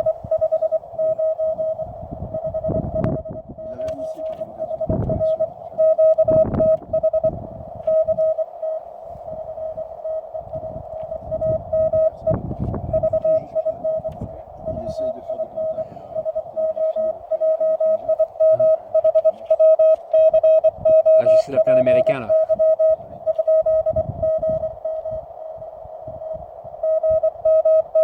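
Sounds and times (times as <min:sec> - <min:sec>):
morse code tone: 0:00.0 - 0:28.0
low rumbles: 0:04.4 - 0:27.5.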